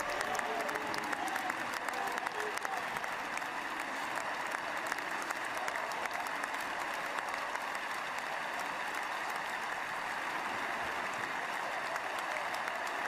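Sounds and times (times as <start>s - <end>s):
close individual claps: 0.0s - 13.0s
stadium crowd applauding: 0.0s - 13.0s.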